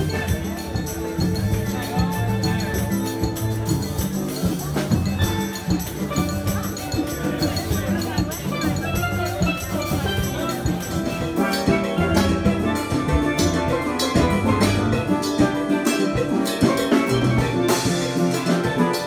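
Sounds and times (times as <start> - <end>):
drums and percussion: 0.0 - 19.0
steel pan ensemble: 0.0 - 19.0.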